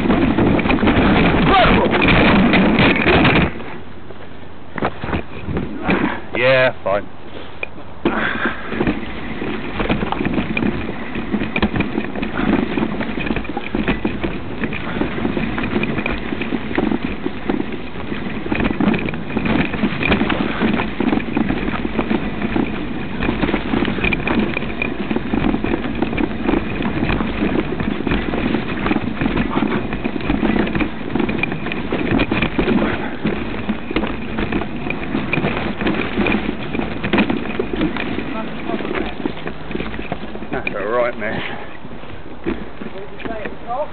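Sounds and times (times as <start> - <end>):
bike rattling over rough trail: 0.0 - 43.9.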